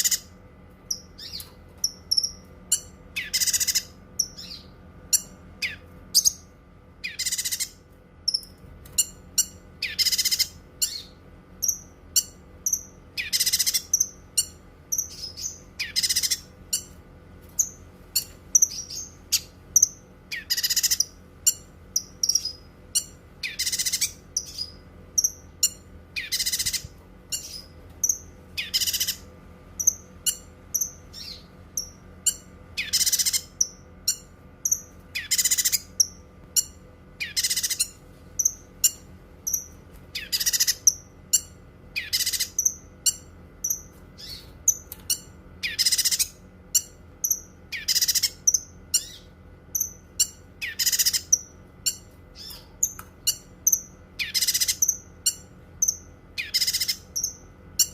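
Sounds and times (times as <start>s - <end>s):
bird singing loud rapid phrases: 0.0s - 17.0s, 17.6s - 57.9s.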